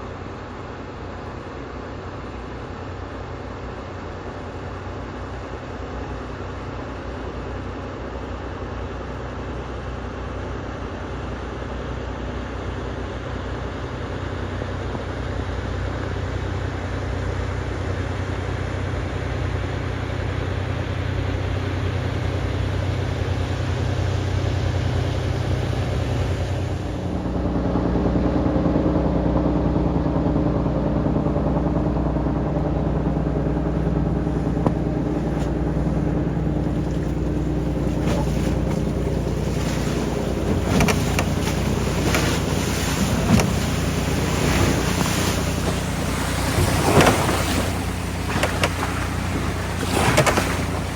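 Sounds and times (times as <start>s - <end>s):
small boat engine running: 0.0s - 50.9s.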